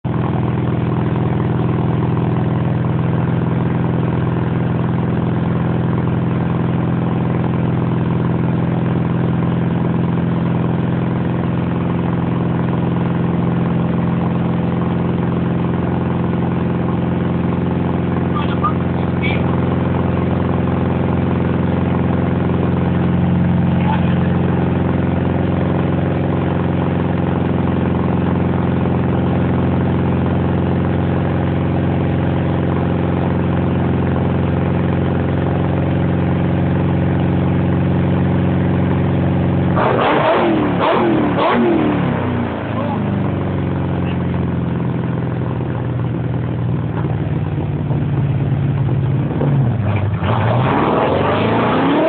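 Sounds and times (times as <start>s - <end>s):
engine idling: 0.0s - 52.0s.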